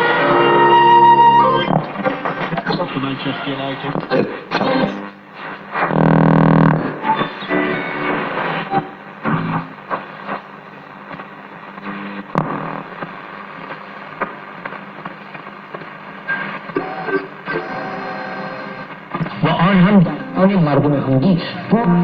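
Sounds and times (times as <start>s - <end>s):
broken snatches of radio signal: 0.0s - 22.0s
radio static and hiss: 0.0s - 22.0s.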